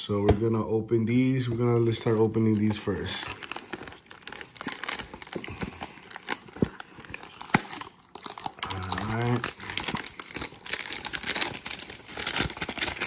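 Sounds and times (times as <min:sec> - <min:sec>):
cardboard packaging crinkling: 0:01.7 - 0:13.0.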